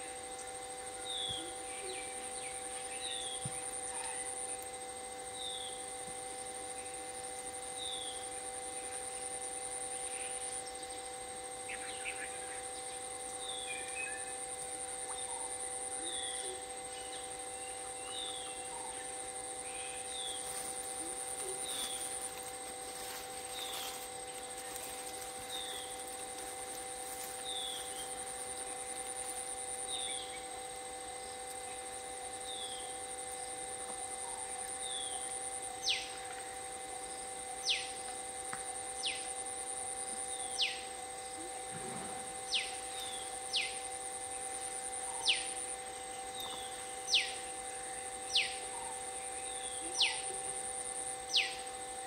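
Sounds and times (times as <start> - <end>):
high insect-like drone: 0.0 - 52.0
low hum: 0.0 - 52.0.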